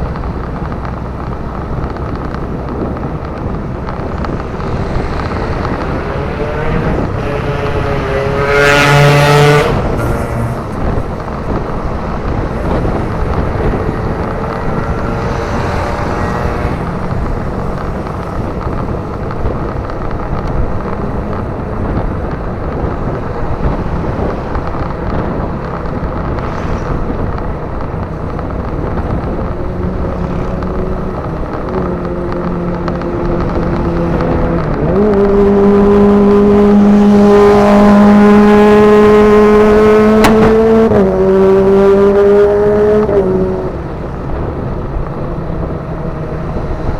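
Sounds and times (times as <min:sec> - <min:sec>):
wind rush on microphone: 0:00.0 - 0:46.9.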